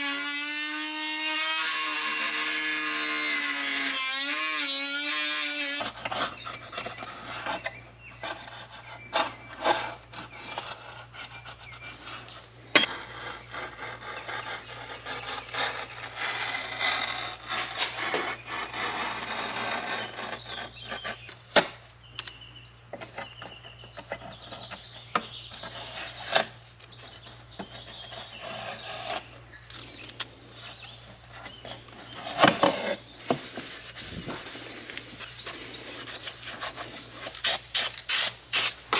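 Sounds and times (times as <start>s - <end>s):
rubbing and scraping: 0.8s - 21.8s, 22.9s - 38.9s.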